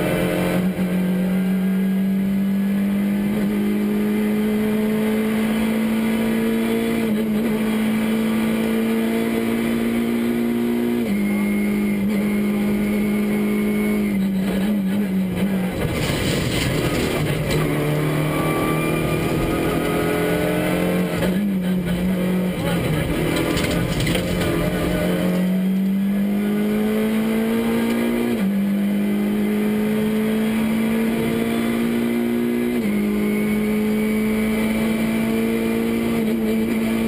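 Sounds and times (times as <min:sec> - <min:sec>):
rally car engine at high revs: 0:00.0 - 0:37.0
rushing road noise: 0:00.0 - 0:37.0.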